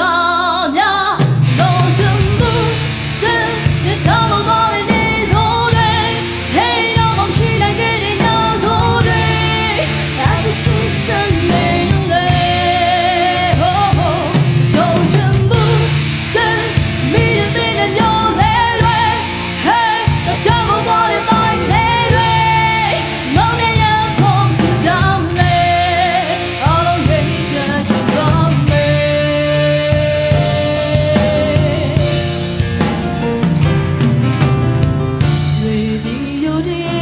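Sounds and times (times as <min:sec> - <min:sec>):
woman singing into microphone: 0:00.0 - 0:32.4, 0:35.3 - 0:37.0
live band with drums: 0:00.0 - 0:37.0.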